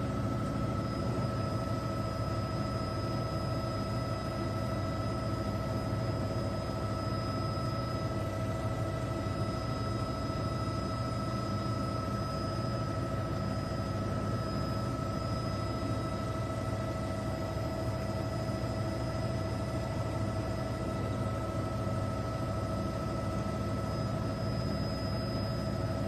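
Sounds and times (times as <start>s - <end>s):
engine drone with whining tones: 0.0s - 26.0s.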